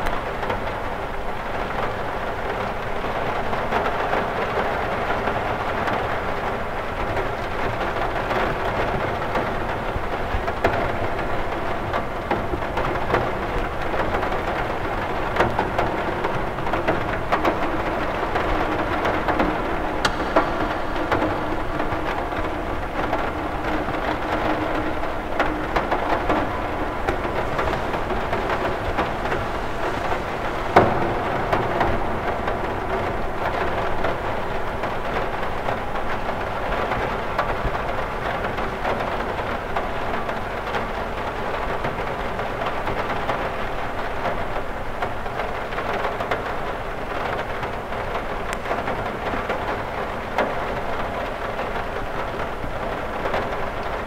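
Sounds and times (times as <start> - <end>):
rain pattering on window: 0.0 - 54.0.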